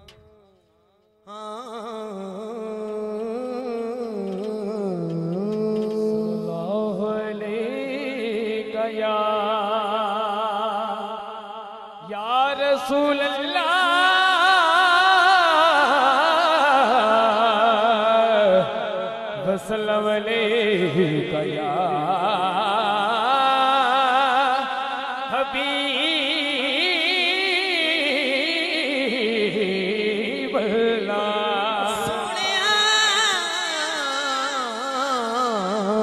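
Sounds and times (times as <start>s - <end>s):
man singing with vibrato: 1.3s - 36.0s.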